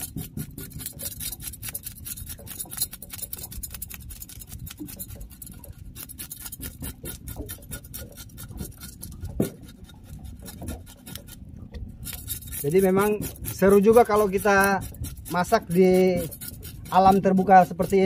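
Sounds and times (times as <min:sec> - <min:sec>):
knife scraping fish scales: 0:00.0 - 0:18.0.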